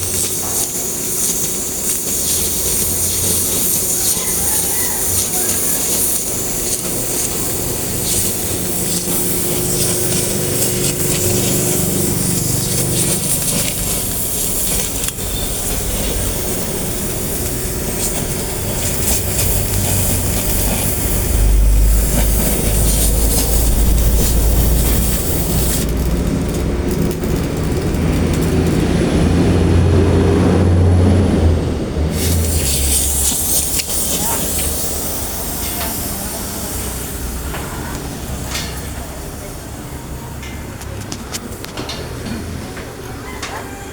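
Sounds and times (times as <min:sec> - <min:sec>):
steady hissing of cutting: 0:00.0 - 0:29.5, 0:32.0 - 0:40.8
low machine hum: 0:00.0 - 0:36.4.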